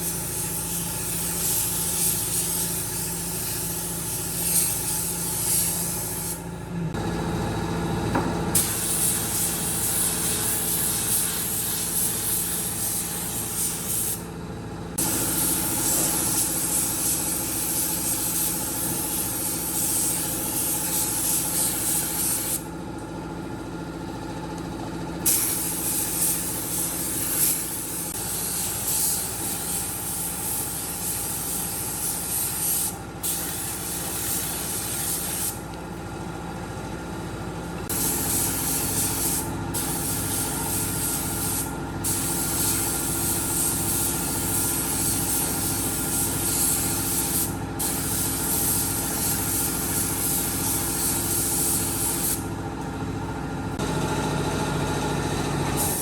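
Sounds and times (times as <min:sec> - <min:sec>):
hiss of air spray: 0:00.0 - 0:06.4, 0:08.6 - 0:14.2, 0:15.0 - 0:22.6, 0:25.3 - 0:35.6, 0:37.9 - 0:52.4, 0:55.8 - 0:56.0.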